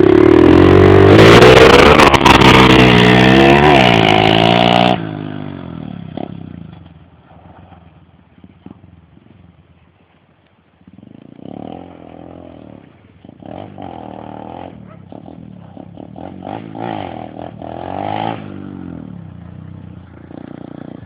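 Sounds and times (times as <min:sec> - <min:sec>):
motorbike engine at full throttle: 0:00.0 - 0:09.5, 0:10.8 - 0:21.0.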